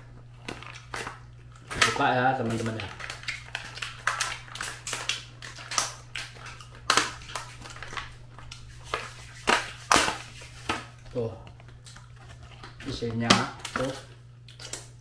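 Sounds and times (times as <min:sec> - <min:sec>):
plastic container crackling: 0:00.4 - 0:14.1.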